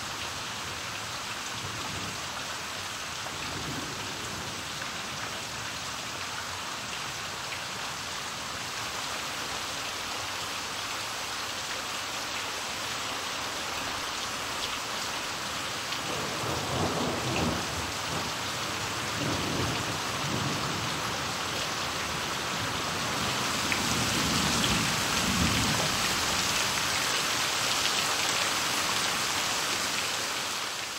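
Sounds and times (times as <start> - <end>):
rain on leaves and water: 0.0 - 30.9.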